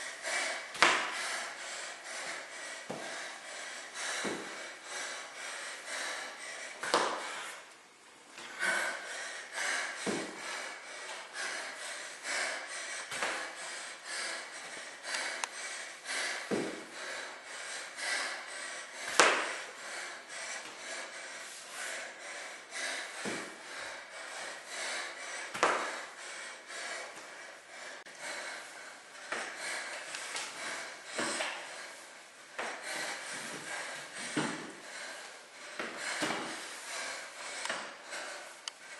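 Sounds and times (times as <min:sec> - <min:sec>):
woman breathing hard: 0:00.0 - 0:07.7, 0:08.3 - 0:38.9.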